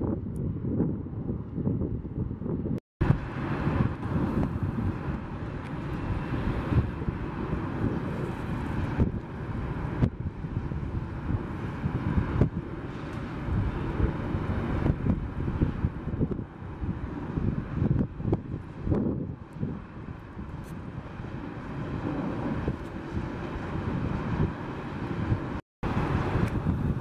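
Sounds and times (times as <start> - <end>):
wind on microphone: 0.0 - 27.0
jet engines taxiing: 3.0 - 27.0.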